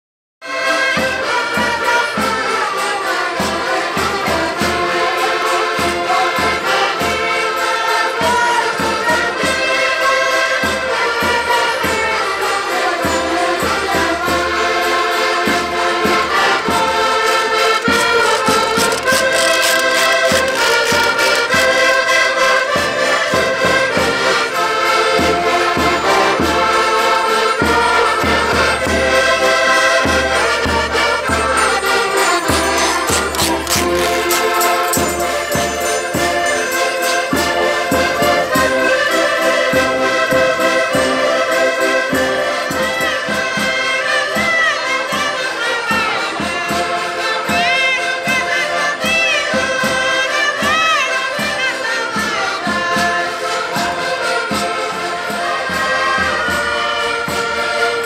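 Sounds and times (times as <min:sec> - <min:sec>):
accordions playing folk tune: 0:00.4 - 0:58.0.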